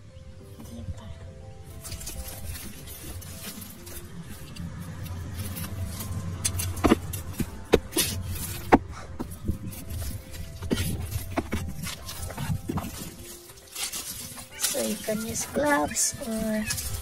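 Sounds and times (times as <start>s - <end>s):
digging scrapes in soil: 1.7s - 17.0s.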